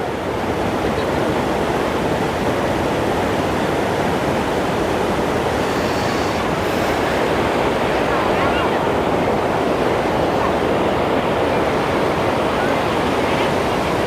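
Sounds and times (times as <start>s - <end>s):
waterfall rushing: 2.7s - 14.0s.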